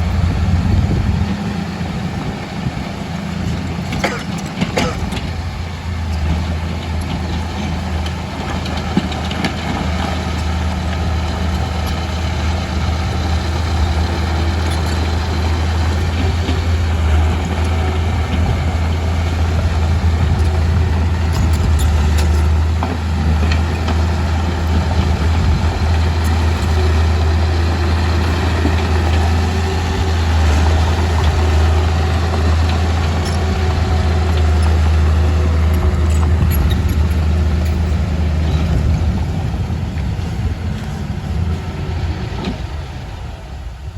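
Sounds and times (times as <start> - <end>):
diesel engine humming: 0.0 - 43.9.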